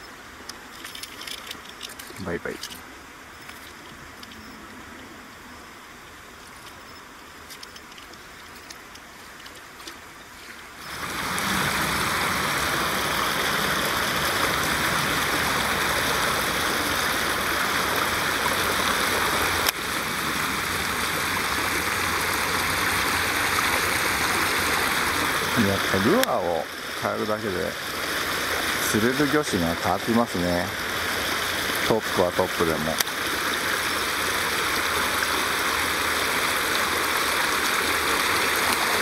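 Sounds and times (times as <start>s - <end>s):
water rushing and splashing: 0.0s - 39.0s.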